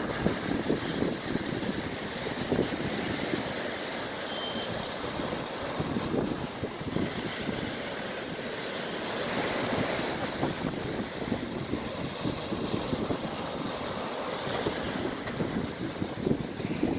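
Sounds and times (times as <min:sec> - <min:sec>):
wind buffeting microphone: 0:00.0 - 0:03.8, 0:04.7 - 0:16.9
small waves breaking on sand: 0:00.0 - 0:16.9.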